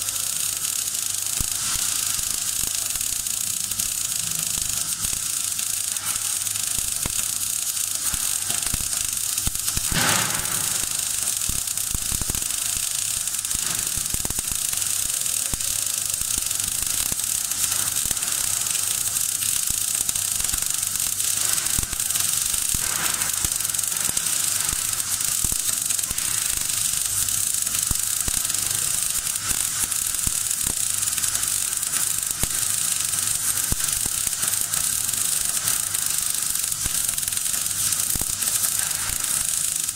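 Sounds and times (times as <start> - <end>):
welding arc sizzling: 0.0 - 39.9.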